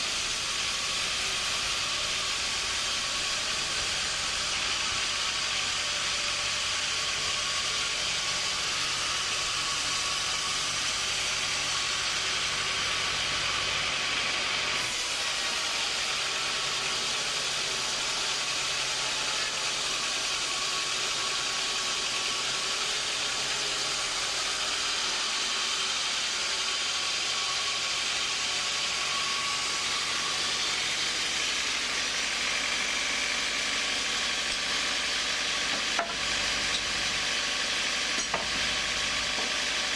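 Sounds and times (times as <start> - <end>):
sawmill machinery hissing whir: 0.0 - 39.9.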